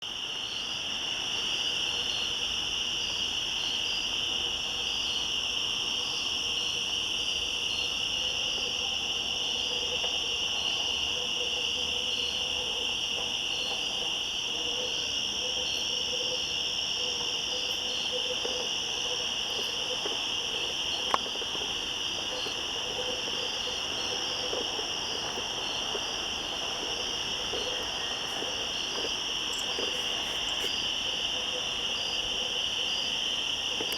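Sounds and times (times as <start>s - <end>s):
cicadas buzzing in chorus: 0.0s - 33.9s.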